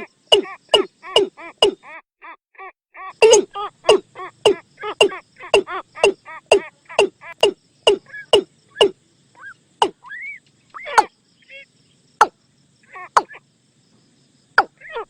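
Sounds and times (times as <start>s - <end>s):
watercock calling: 0.0s - 2.0s, 3.0s - 13.4s.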